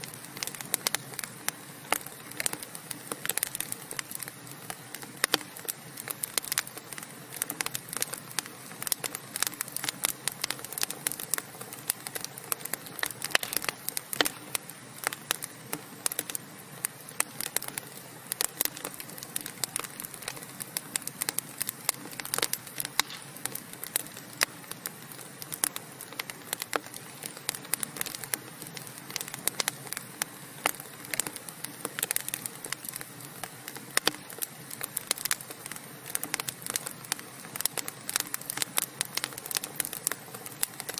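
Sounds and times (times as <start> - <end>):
logs crackling in a fireplace: 0.0 - 40.9.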